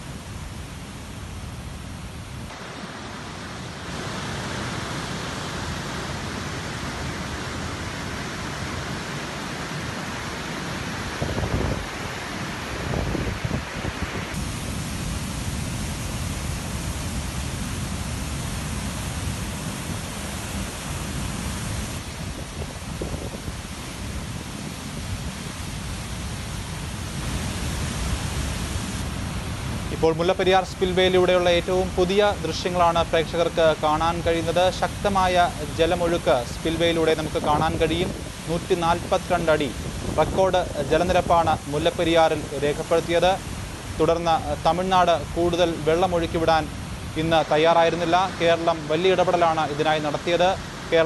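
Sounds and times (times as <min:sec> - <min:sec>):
water rushing over dam spillway: 0:00.0 - 0:51.0.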